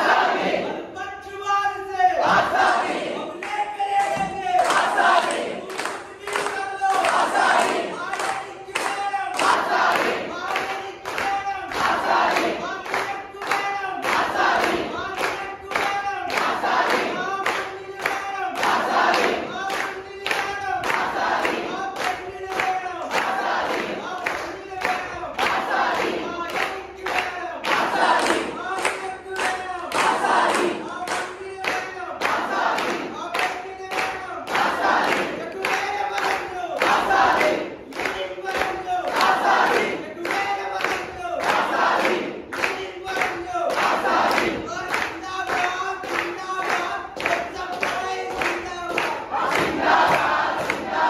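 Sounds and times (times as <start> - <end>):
crowd chanting slogans: 0.0 - 51.0
people clapping: 0.0 - 51.0.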